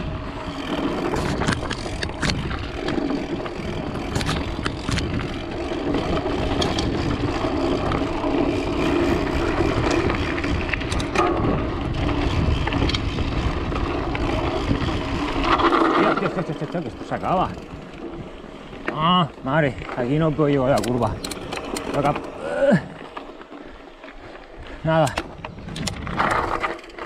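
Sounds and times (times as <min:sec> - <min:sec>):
tyres rumbling on dirt track: 0:00.0 - 0:27.0.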